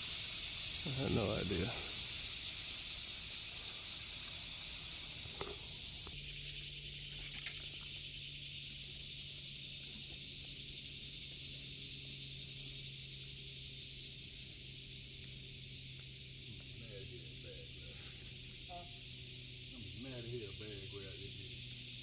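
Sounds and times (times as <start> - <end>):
high-pitched outdoor hiss: 0.0 - 22.0.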